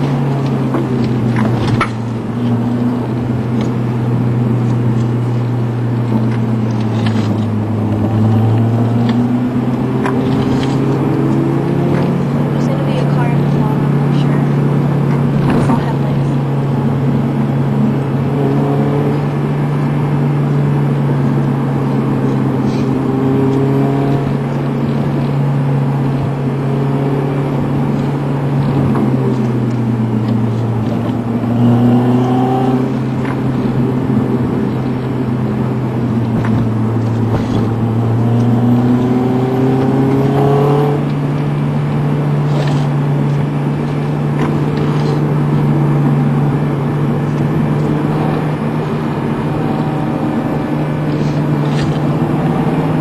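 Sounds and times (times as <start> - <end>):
car engine drone: 0.0 - 53.0
road noise: 0.0 - 53.0.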